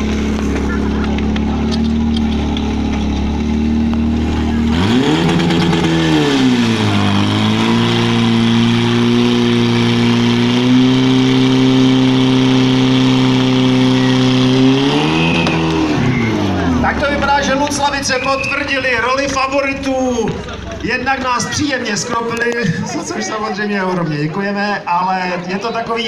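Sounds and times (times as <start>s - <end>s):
fire pump engine running hard: 0.0s - 23.2s.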